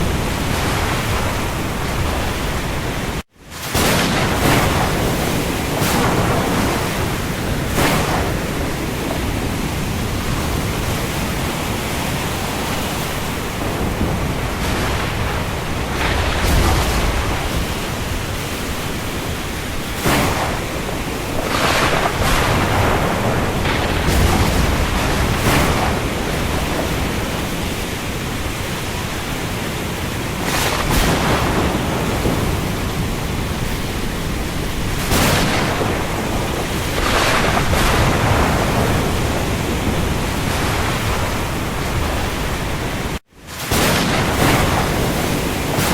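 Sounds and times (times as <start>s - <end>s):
rain falling on sea: 0.0s - 45.9s.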